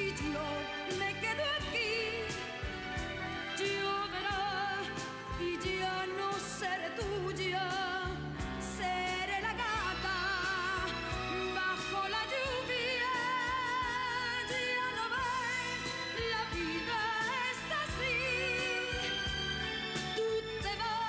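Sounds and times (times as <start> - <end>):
band with piano guitars and drums: 0.0 - 21.0
woman singing a ballad: 0.0 - 21.0.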